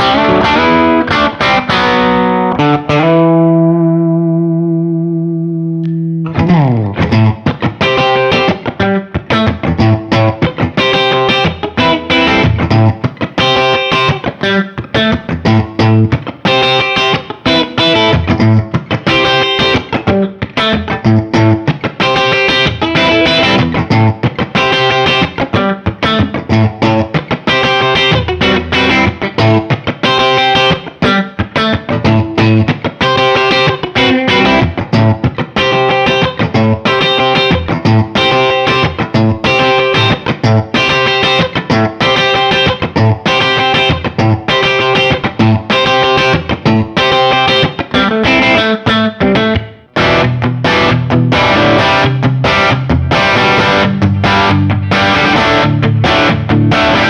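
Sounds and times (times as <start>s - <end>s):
electric guitar chord riff: 0.0s - 57.0s.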